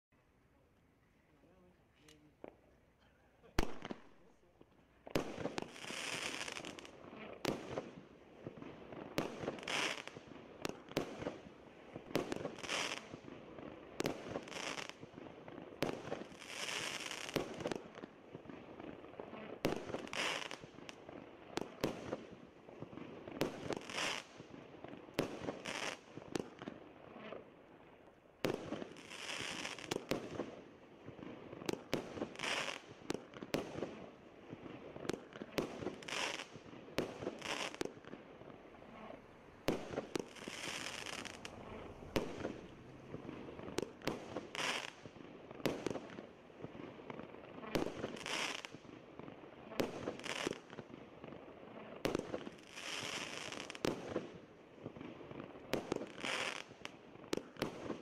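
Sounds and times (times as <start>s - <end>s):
crackling firework bursts: 1.4s - 58.0s
fireworks launch and burst bangs: 3.5s - 19.0s, 19.6s - 26.8s, 28.4s - 51.4s, 52.0s - 58.0s.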